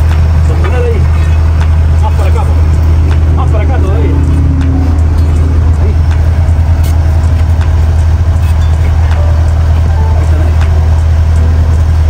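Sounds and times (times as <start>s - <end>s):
large engine humming: 0.0s - 12.0s.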